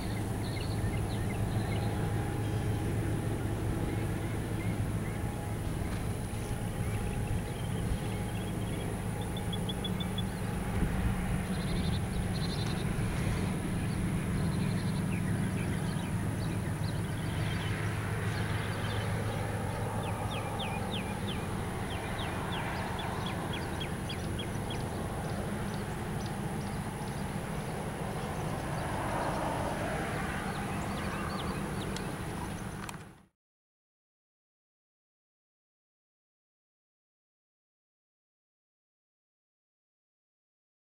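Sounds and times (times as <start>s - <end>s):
distant diesel locomotive drone: 0.0s - 33.3s.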